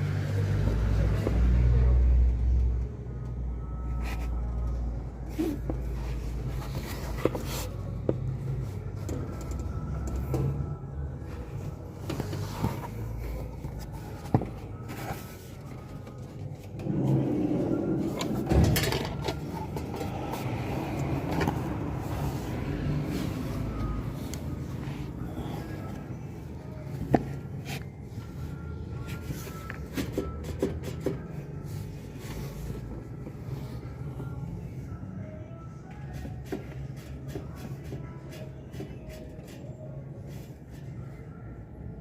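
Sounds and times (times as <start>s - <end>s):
car engine humming: 0.0s - 35.8s.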